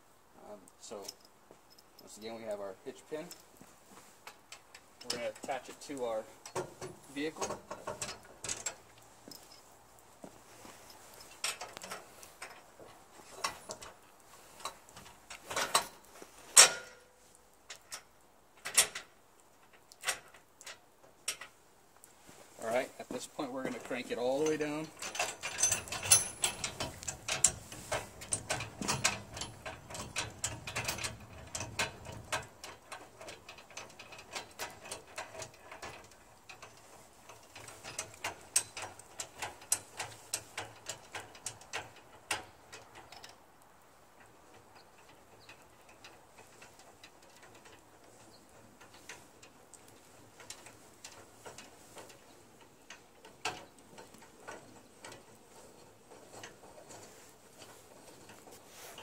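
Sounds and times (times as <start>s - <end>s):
metal clanks and rattles: 0.9s - 9.7s, 10.5s - 21.6s, 22.2s - 59.0s.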